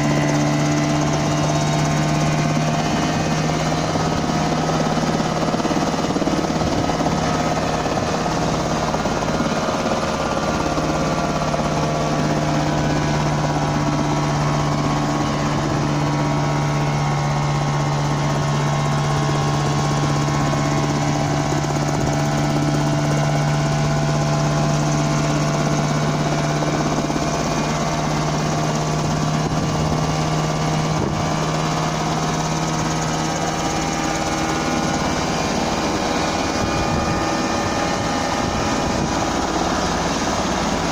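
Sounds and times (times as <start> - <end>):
helicopter engine and rotors droning: 0.0 - 40.9.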